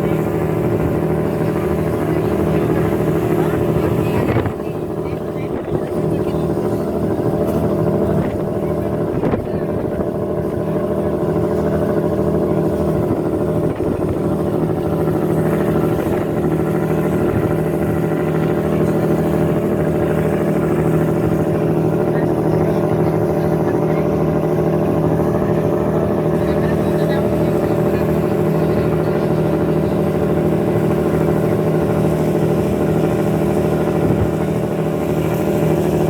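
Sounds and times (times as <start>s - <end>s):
riverboat engine droning: 0.0s - 36.0s.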